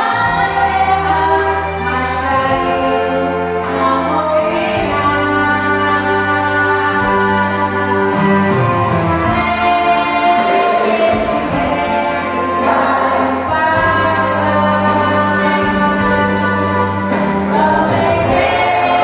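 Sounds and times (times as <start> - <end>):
women's vocal group singing gospel: 0.0 - 19.0.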